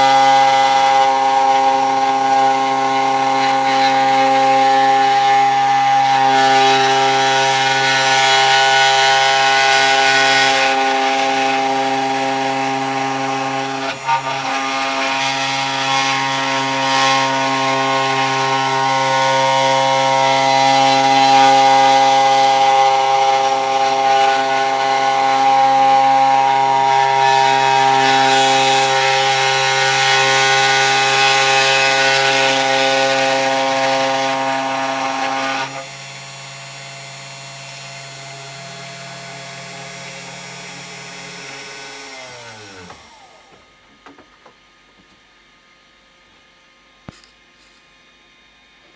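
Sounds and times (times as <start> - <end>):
router spindle cutting wood: 0.0 - 44.2.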